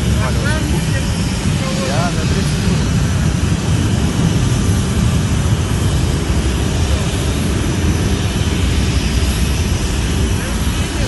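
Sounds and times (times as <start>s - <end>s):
jet engine roaring: 0.0s - 11.0s.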